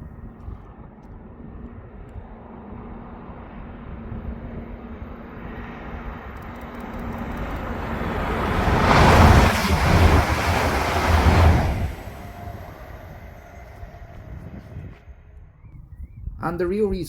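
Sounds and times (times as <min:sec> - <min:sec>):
train rumble: 0:01.6 - 0:15.4.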